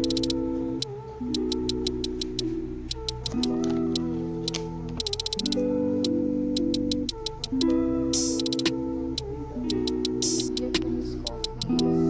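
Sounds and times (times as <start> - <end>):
light ticking percussion: 0.0 - 12.0
sustained synth chords: 0.0 - 12.0.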